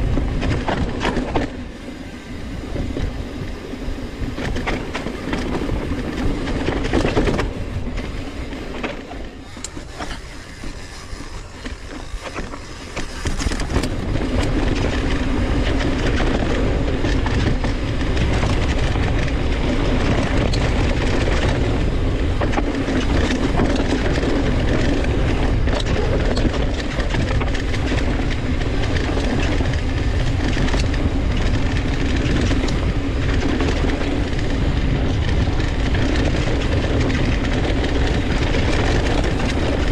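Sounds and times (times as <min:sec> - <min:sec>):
bike rattle: 0:00.0 - 0:39.9
wind on microphone: 0:00.0 - 0:39.9.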